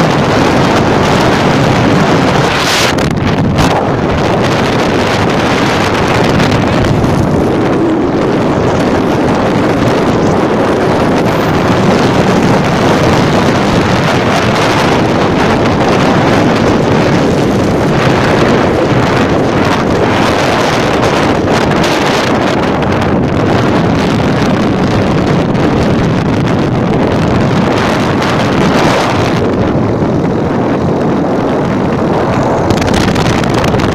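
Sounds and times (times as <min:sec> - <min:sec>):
strong wind buffeting microphone: 0:00.0 - 0:33.9.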